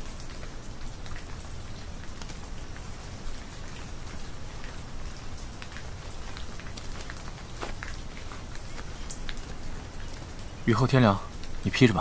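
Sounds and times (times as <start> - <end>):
light rain pattering: 0.0 - 12.0
raindrop ticks: 0.0 - 12.0.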